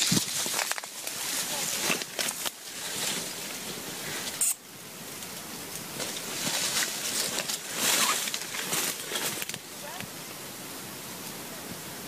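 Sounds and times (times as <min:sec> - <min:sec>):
rustling and crackling: 0:00.0 - 0:10.2.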